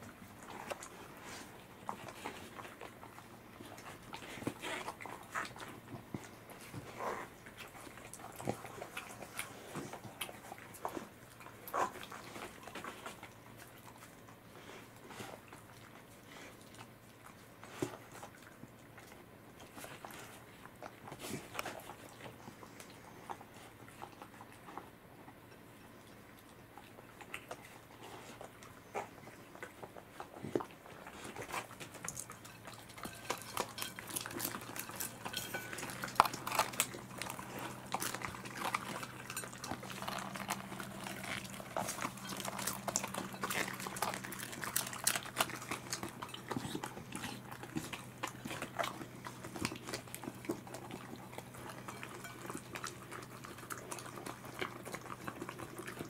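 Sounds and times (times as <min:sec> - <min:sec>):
dogs licking and chewing: 0:00.0 - 0:56.0.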